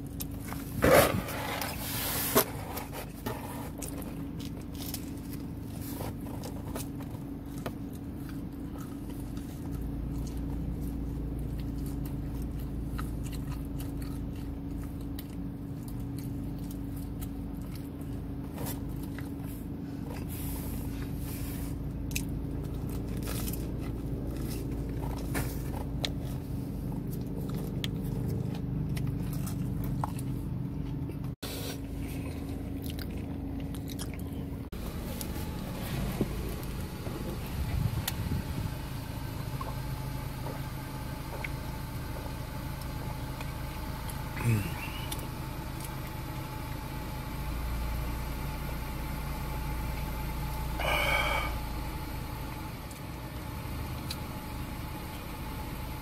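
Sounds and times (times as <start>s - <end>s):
chewing and biting pizza: 0.0s - 55.8s
car interior hum: 0.0s - 56.0s.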